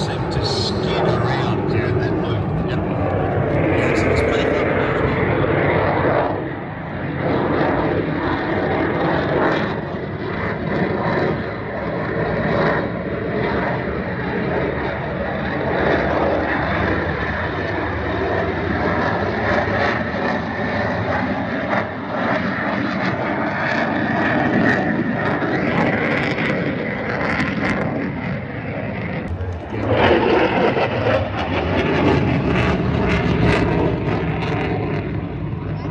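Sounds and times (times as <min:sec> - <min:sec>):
aircraft engine rushing: 0:00.0 - 0:35.9
faint engine whine: 0:00.0 - 0:35.9.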